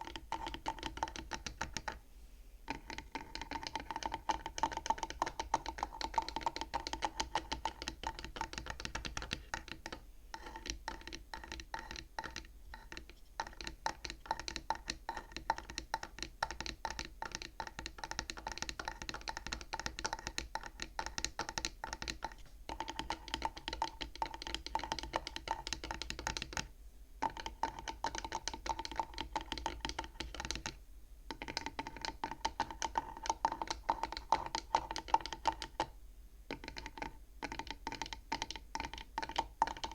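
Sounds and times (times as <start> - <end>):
fingers tapping on wooden frame: 0.0 - 2.0, 2.7 - 39.9.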